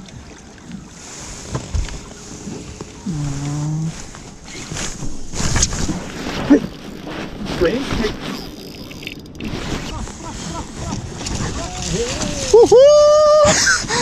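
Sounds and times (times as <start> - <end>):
water noise around boat: 0.0 - 14.0.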